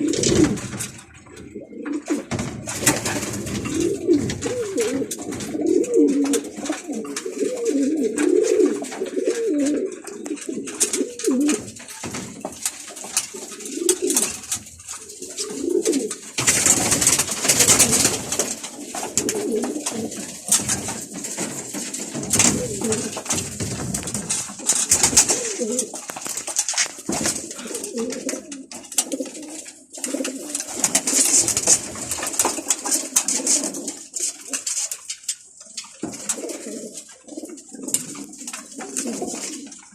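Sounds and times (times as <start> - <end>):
pigeons cooing: 0.0 - 34.9, 35.7 - 39.9
rustling noise: 0.0 - 39.9.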